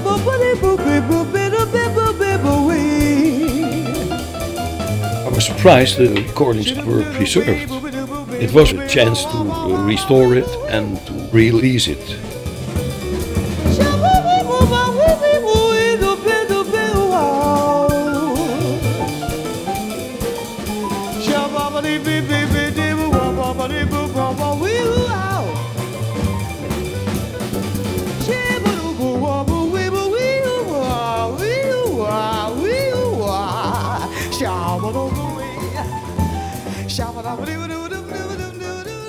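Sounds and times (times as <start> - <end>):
woman singing jazz: 0.0 - 11.1, 13.5 - 27.0, 28.0 - 39.0
drum kit: 0.0 - 39.0
jazz band playing: 0.0 - 39.0.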